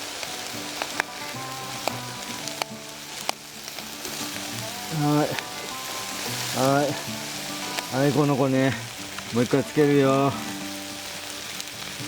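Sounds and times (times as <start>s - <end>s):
chicken sizzling on a grill: 0.0s - 12.0s.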